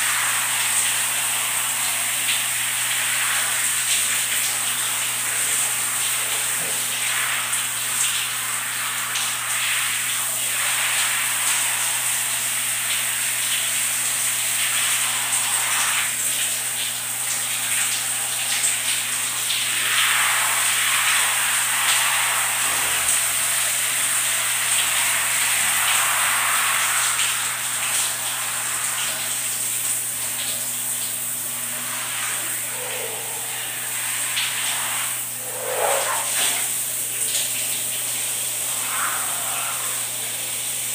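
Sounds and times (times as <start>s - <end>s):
shower spray on a person: 0.0s - 40.9s.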